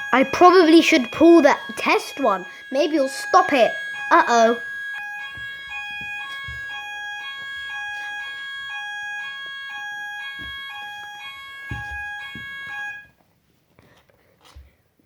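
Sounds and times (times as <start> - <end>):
fire alarm two-tone warble: 0.0 - 13.2.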